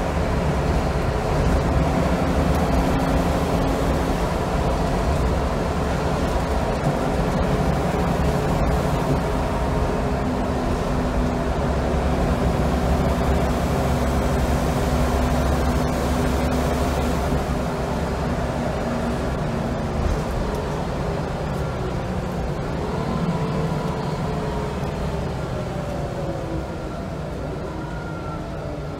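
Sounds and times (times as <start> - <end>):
bus engine droning: 0.0 - 28.9.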